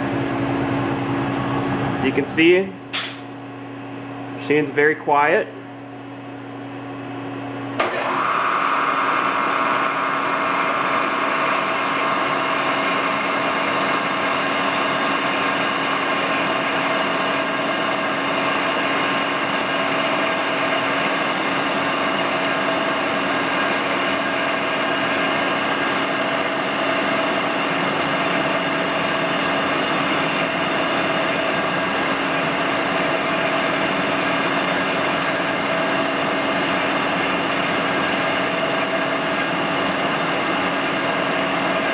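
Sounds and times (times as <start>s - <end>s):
milling machine spindle whine: 7.3s - 41.9s.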